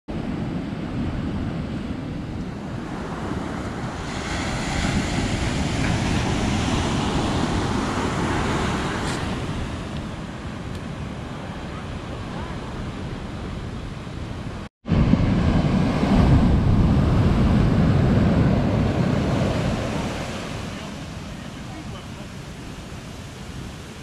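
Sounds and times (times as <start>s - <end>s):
ocean surf breaking on beach: 0.1s - 24.0s.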